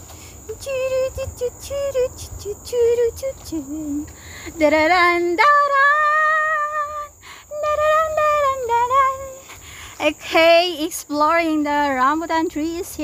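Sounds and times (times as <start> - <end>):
woman singing wordless melody: 0.5 - 13.0.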